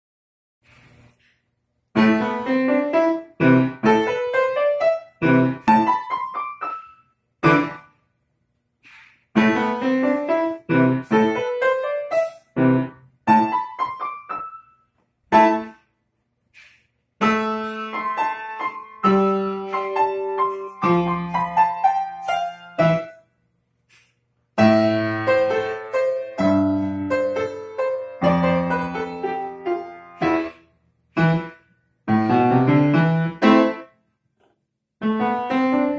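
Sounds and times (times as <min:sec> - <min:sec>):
upright piano played by child: 0:01.9 - 0:08.0, 0:09.3 - 0:15.8, 0:17.2 - 0:23.2, 0:24.6 - 0:34.0, 0:35.0 - 0:35.9.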